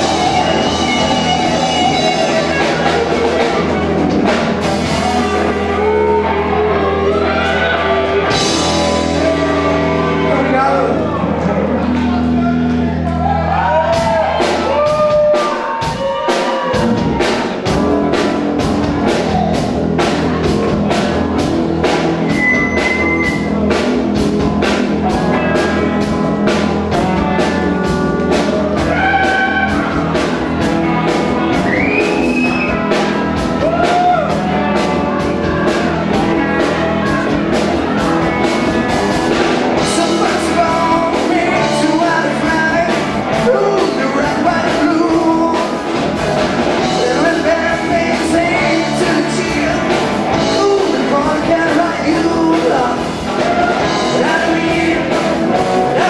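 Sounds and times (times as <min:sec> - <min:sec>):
bass guitar: 0:00.0 - 0:56.0
drum kit beat: 0:00.0 - 0:56.0
electric guitars: 0:00.0 - 0:56.0.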